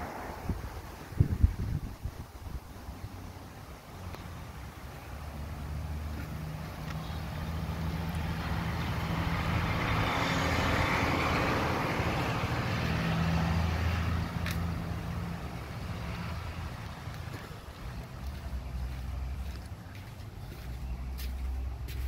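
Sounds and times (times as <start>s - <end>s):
vehicle passing by: 0.0s - 1.9s, 2.8s - 22.0s.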